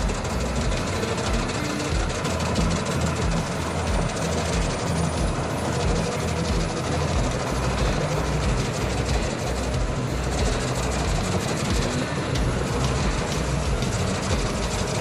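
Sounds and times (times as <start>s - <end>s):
wood chipper running: 0.0s - 15.0s.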